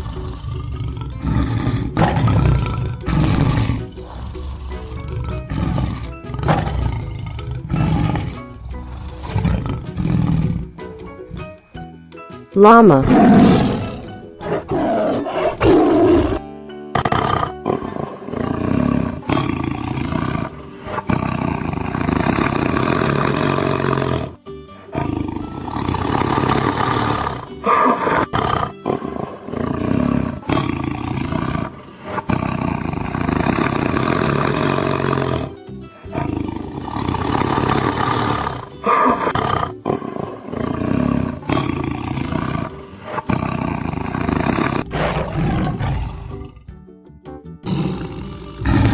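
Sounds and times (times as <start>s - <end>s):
big cat roaring: 0.0s - 10.8s, 12.7s - 46.8s, 47.6s - 48.9s
background music: 0.0s - 48.9s.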